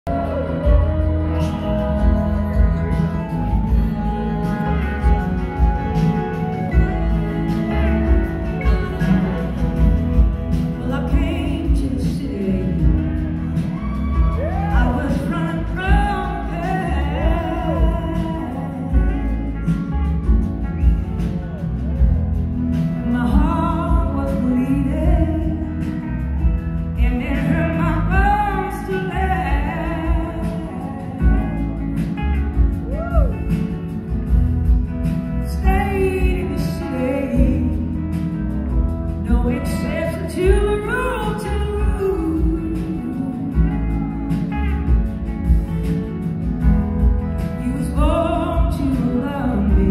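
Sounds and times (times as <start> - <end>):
woman singing: 0.0 - 20.5, 22.7 - 45.7, 46.6 - 49.9
live rock band playing: 0.0 - 49.9.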